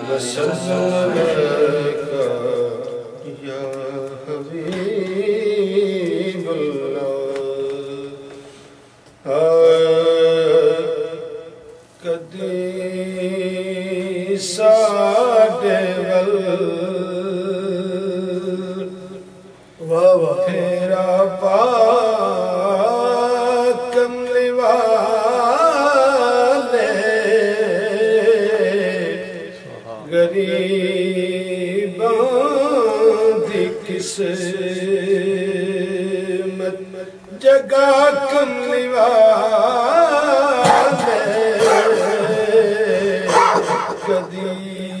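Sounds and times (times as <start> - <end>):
man singing devotional verse: 0.0 - 8.4, 9.2 - 19.2, 19.8 - 45.0.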